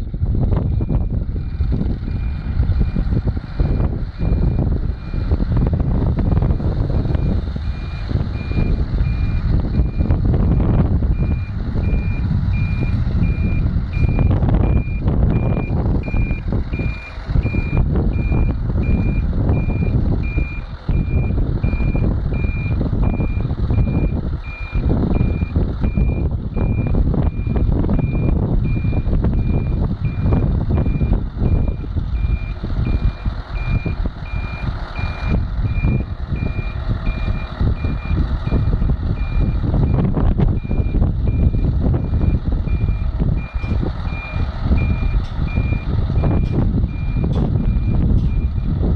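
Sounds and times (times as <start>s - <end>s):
diesel engine running: 0.0s - 48.9s
truck reverse alarm beeping: 0.5s - 48.9s.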